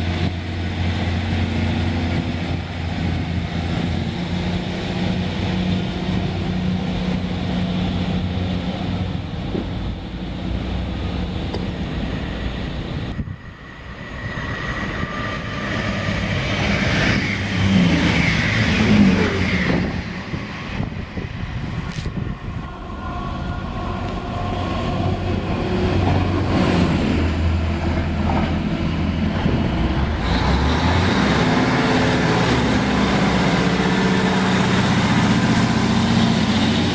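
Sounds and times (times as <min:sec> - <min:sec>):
train engine humming: 0:00.0 - 0:36.9
train rumble: 0:00.0 - 0:36.9.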